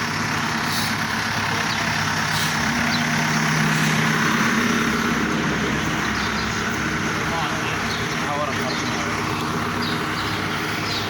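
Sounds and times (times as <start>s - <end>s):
heavy engine humming: 0.0s - 11.0s.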